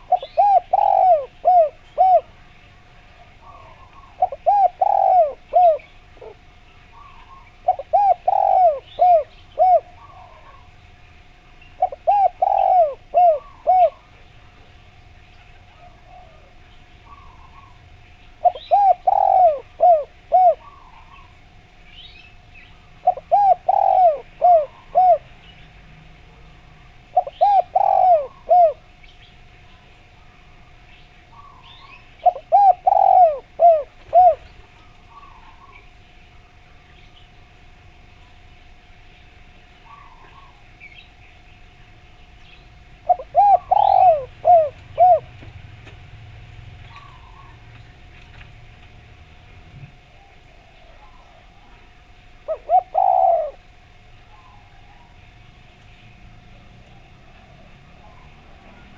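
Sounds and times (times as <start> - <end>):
dove cooing: 0.0 - 14.9, 15.5 - 21.7, 22.3 - 29.1, 31.3 - 35.9, 39.8 - 40.9, 42.8 - 55.5, 56.2 - 58.9
faint bird chirps: 0.0 - 37.5, 38.1 - 45.3, 46.8 - 47.9, 49.9 - 58.9.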